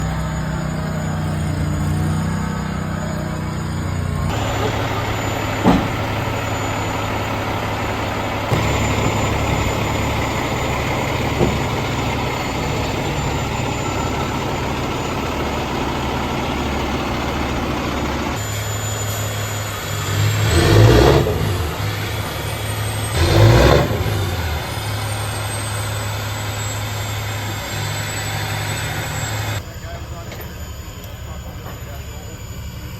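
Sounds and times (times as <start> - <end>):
diesel engine running and revving: 0.0 - 32.9.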